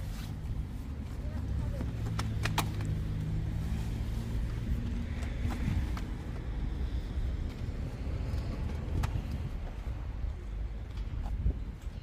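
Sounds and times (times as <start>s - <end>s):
vehicle low rumble: 0.0s - 12.0s.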